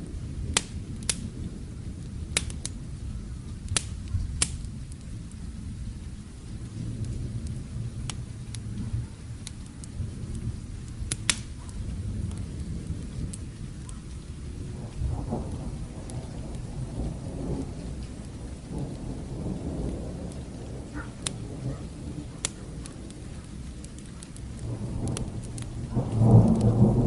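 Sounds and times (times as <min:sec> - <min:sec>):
distant thunder rumbling: 0:00.0 - 0:27.0
steady rain: 0:00.0 - 0:27.0
wood fire crackling and popping: 0:00.0 - 0:27.0.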